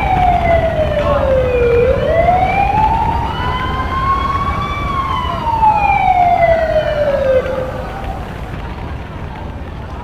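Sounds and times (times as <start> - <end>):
siren wailing: 0.0 - 8.5.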